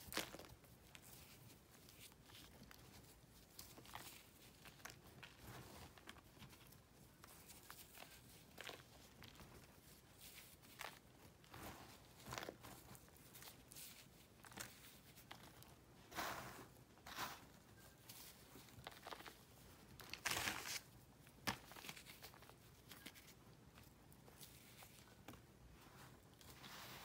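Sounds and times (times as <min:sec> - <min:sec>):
dry powder crunching and crackling: 0:00.0 - 0:27.0.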